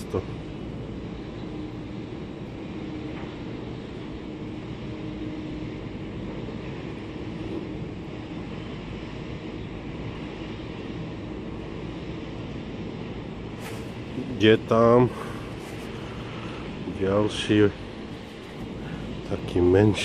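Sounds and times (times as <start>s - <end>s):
faint hum: 0.0s - 20.0s
low background rumble: 0.0s - 20.0s.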